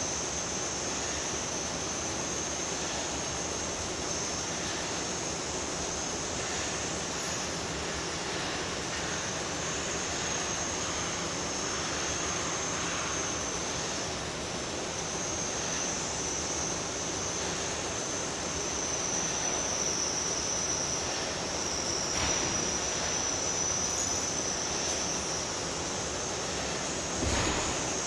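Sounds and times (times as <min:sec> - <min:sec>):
electric motors droning and whining: 0:00.0 - 0:28.0.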